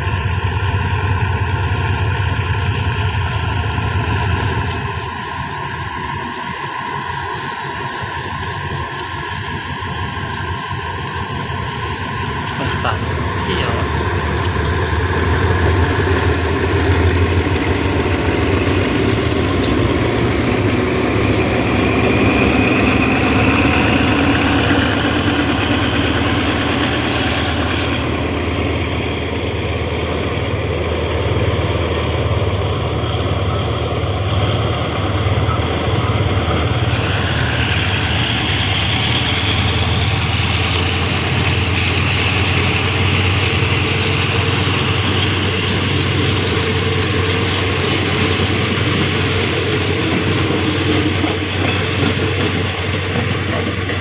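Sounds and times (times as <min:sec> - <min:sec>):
diesel locomotive engines: 0:00.0 - 0:54.0
train coaches rolling past: 0:00.0 - 0:54.0.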